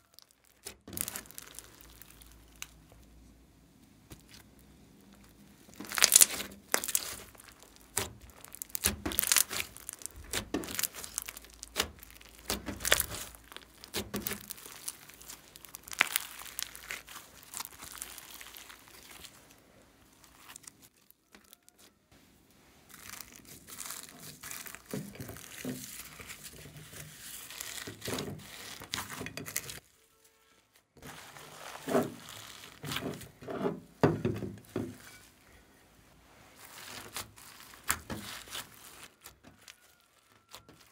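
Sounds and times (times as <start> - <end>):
slime crackling and popping: 0.0 - 3.2, 4.0 - 21.9, 22.8 - 29.8, 31.1 - 33.2, 36.6 - 40.9.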